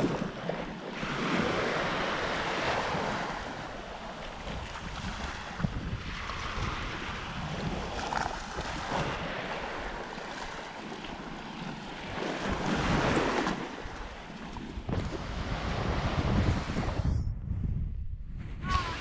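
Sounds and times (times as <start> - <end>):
waves washing onto shore: 0.0 - 17.0
wind buffeting microphone: 0.0 - 19.0.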